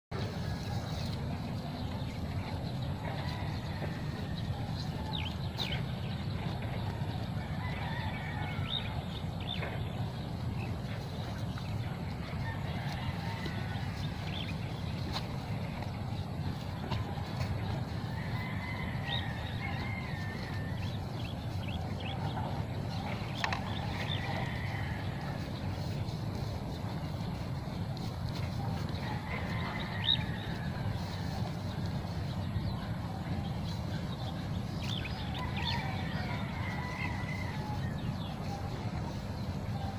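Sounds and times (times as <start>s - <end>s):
birds chirping: 0.1s - 39.9s
cow chewing grass: 0.1s - 39.9s
low rumble: 0.1s - 39.9s.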